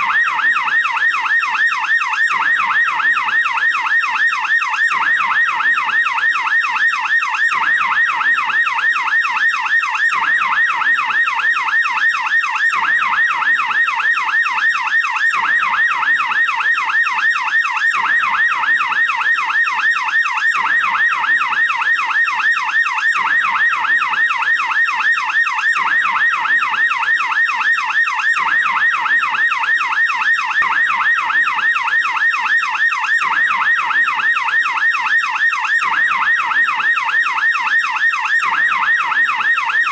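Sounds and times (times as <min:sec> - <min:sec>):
police siren yelping: 0:00.0 - 0:39.9.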